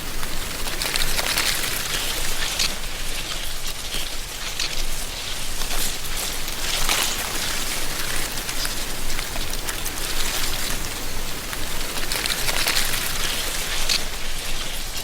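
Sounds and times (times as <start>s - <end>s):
wind rustling dry leaves: 0.0s - 15.0s.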